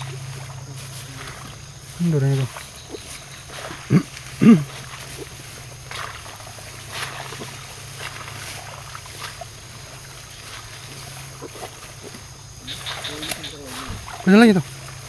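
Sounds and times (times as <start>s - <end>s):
footsteps through undergrowth: 0.0s - 15.0s
steady low hum: 0.0s - 15.0s.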